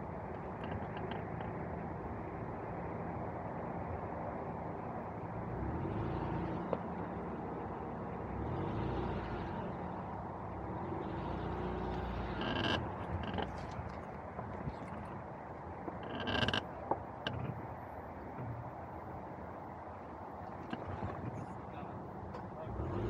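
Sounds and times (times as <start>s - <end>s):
car engine at low revs: 0.0s - 23.0s.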